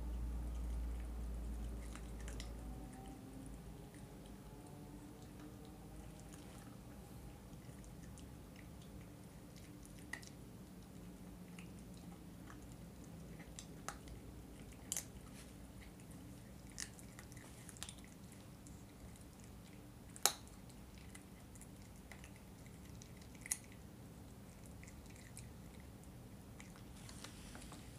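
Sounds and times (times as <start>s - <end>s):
puppy gnawing bone: 0.0s - 27.9s.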